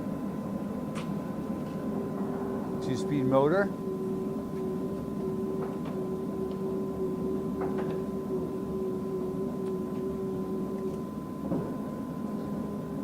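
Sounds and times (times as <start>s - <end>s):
lathe humming: 1.9s - 13.0s.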